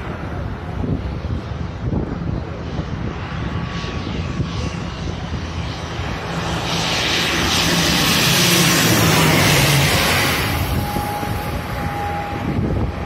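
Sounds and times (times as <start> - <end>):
airliner passing overhead: 0.0 - 13.0.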